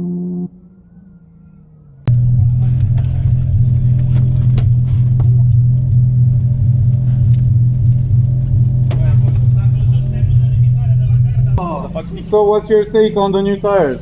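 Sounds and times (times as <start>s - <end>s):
car engine running: 2.1s - 14.0s.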